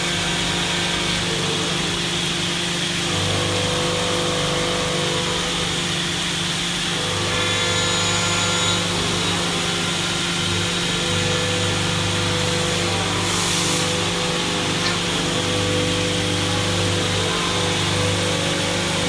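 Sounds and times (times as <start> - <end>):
machine hum: 0.0 - 19.0
milling machine spindle whine: 0.0 - 19.0.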